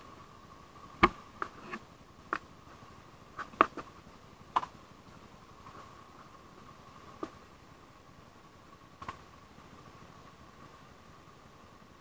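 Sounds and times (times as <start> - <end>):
faint high-pitched hum: 0.0 - 12.0.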